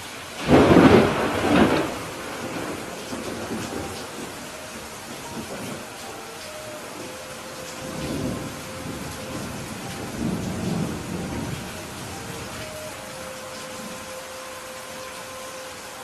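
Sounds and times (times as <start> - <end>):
steady rain: 0.0 - 16.0
thunder rumbling: 0.4 - 14.2.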